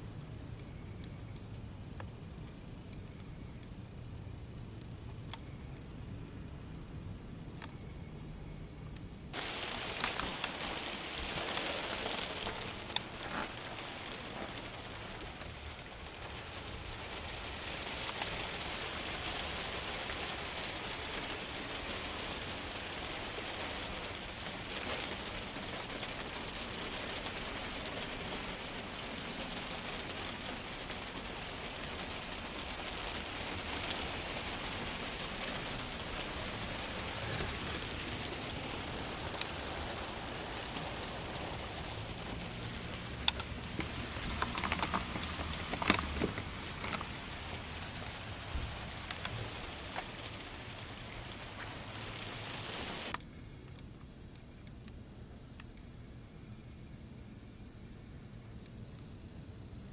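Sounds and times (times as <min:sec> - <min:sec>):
rain pattering: 0:00.0 - 0:05.9, 0:09.3 - 0:56.2.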